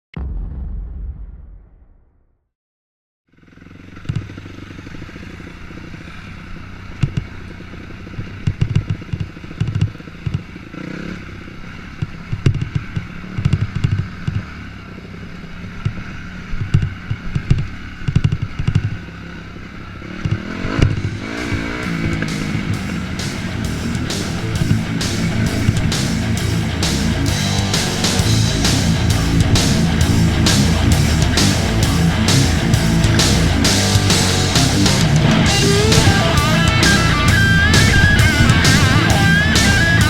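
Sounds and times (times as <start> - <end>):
dirt bike engine running: 3.3 - 40.0.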